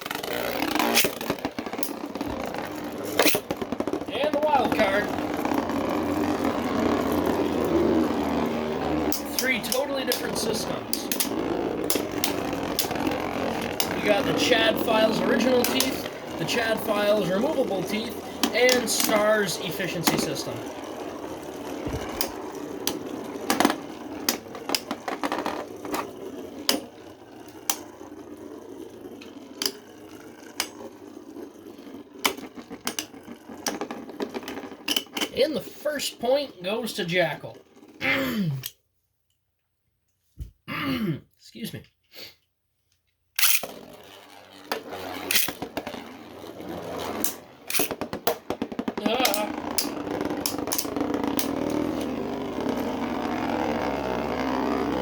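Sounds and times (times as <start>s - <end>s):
spinning tops whirring: 0.0s - 38.1s, 43.4s - 55.0s
spinning tops clacking together: 0.3s - 35.4s, 43.4s - 55.0s.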